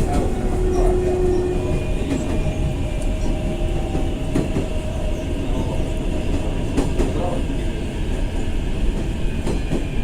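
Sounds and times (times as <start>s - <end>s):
train rumble inside carriage: 0.0s - 10.0s.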